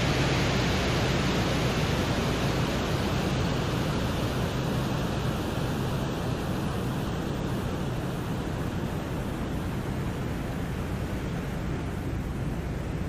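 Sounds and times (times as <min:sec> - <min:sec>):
low rushing noise: 0:00.0 - 0:13.0.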